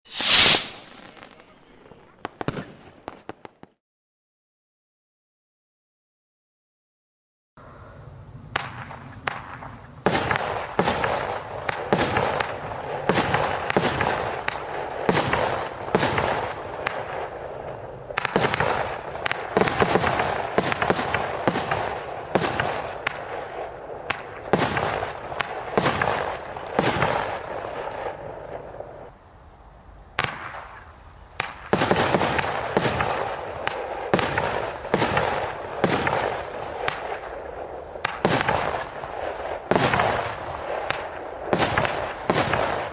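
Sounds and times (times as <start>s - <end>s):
fireworks launching: 0.0s - 3.7s, 8.6s - 29.1s, 30.2s - 42.9s
fireworks bursting and crackling: 0.0s - 3.8s, 8.6s - 29.2s, 30.2s - 42.9s.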